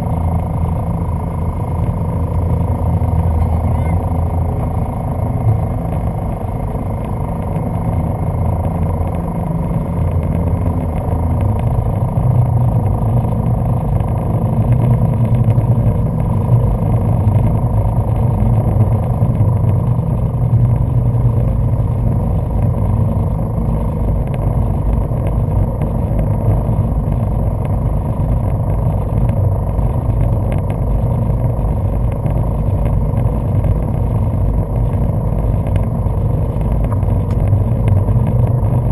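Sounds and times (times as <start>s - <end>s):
jet boat engines droning: 0.0s - 38.9s.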